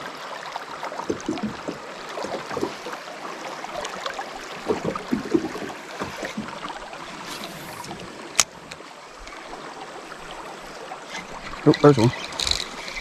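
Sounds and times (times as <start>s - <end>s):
creek water splashing and gurgling: 0.0s - 13.0s.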